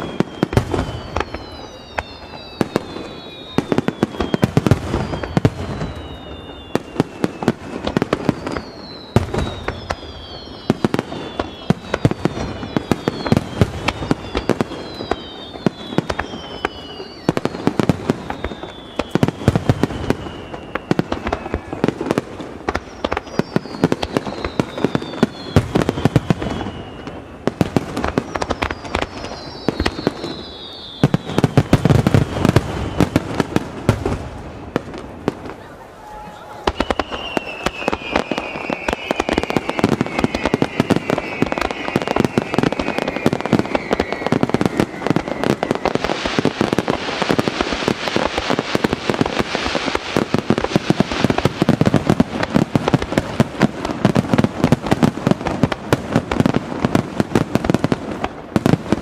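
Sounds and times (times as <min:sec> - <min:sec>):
falling firework whistles: 0:00.0 - 0:59.0
fireworks bangs and crackling: 0:00.0 - 0:59.0.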